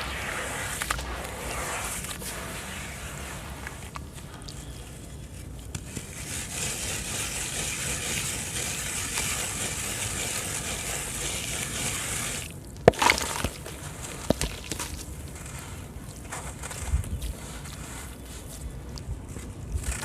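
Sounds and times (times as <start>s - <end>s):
sand-cement fizzing in water: 0.0s - 18.9s.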